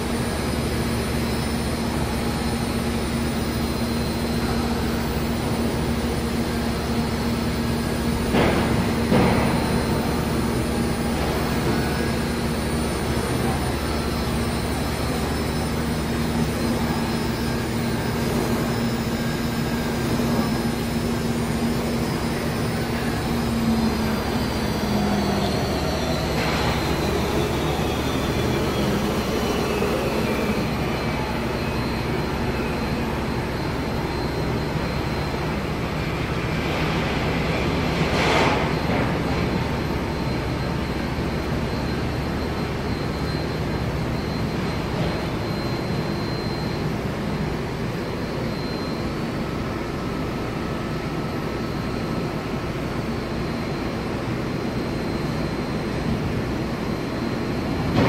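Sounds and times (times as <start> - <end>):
faint high whine: 0.0 - 58.0
machinery humming loudly: 0.0 - 58.0.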